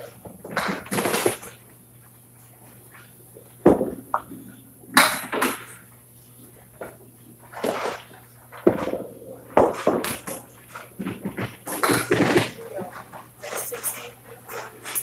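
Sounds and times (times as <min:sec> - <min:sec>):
bowling balls and pins clattering: 0:00.0 - 0:01.7, 0:02.6 - 0:05.9, 0:06.6 - 0:15.0.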